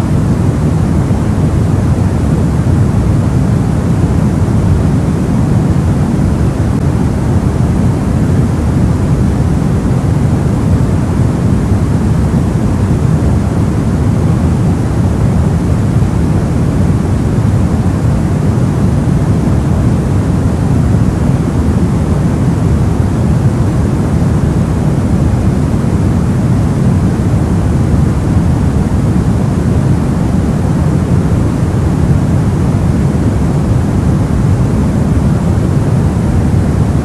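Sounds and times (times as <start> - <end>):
deep white noise: 0.0 - 37.0.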